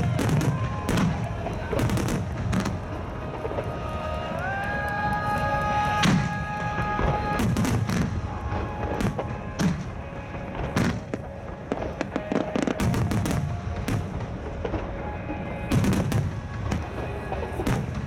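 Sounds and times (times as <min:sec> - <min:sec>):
fireworks bangs and crackles: 0:00.0 - 0:18.0
music playing: 0:00.0 - 0:18.0.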